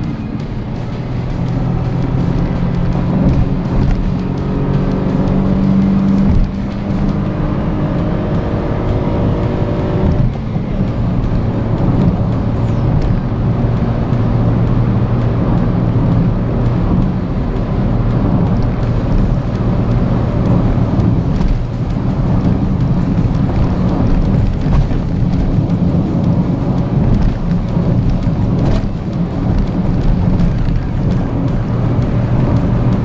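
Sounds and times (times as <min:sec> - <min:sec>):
car hitting bumps: 0:00.0 - 0:08.4, 0:09.0 - 0:33.0
car engine drone: 0:00.0 - 0:33.0
road and tyre noise: 0:00.0 - 0:33.0.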